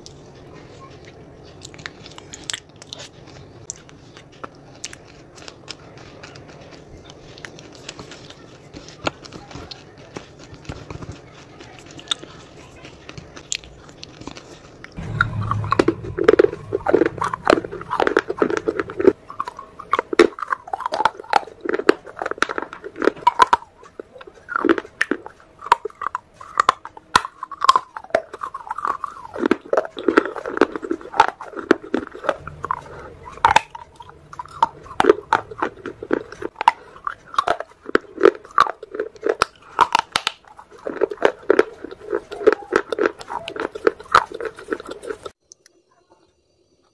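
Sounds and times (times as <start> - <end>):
crunchy chewing: 0.0 - 45.8.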